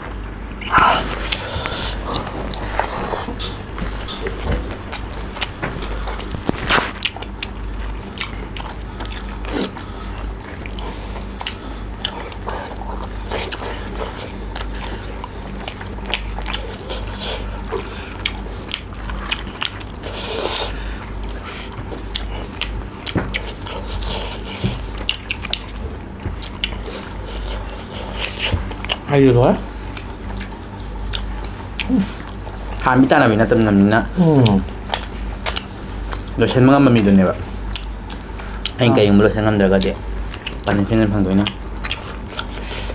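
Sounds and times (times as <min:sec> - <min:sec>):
steady low hum: 0:00.0 - 0:42.9
chewing and wet mouth smacks: 0:00.1 - 0:29.1, 0:29.9 - 0:32.8, 0:34.4 - 0:36.4, 0:37.4 - 0:38.8, 0:39.8 - 0:42.9.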